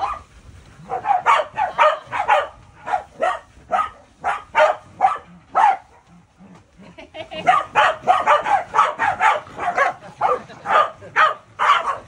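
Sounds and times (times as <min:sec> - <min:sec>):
dog barking: 0:00.0 - 0:06.2, 0:07.4 - 0:12.0.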